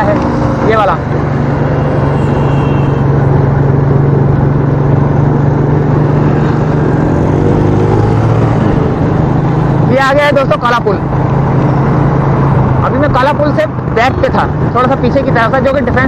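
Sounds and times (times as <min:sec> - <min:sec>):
motorcycle engine cruising: 0:00.0 - 0:16.0
wind and road noise: 0:00.0 - 0:16.0.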